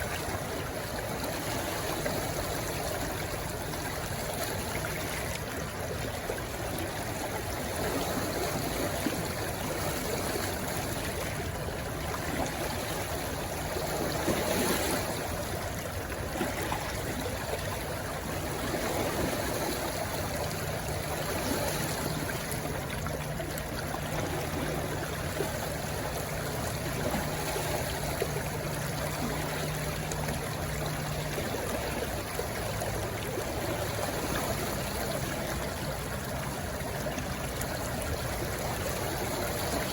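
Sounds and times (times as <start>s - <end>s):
stream water rushing and trickling: 0.0s - 39.9s.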